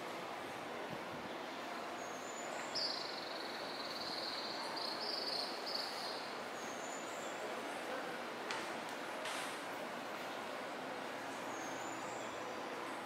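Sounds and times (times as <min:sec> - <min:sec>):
open-air ambience hiss: 0:00.0 - 0:13.0.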